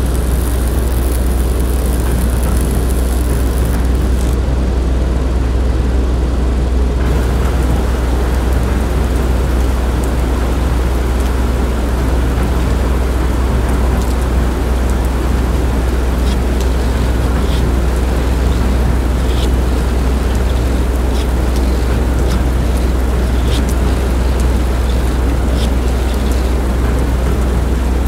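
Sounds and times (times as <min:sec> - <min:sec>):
train rumbling in motion: 0:00.0 - 0:28.0.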